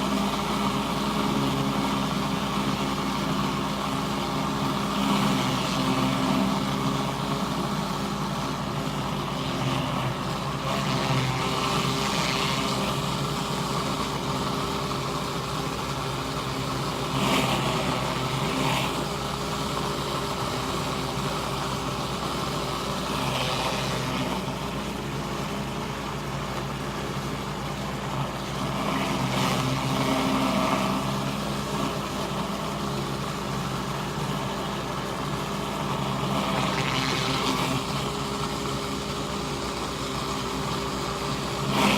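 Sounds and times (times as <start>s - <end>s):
high-pressure water hissing: 0.0s - 41.9s
pressure washer engine running: 0.0s - 41.9s.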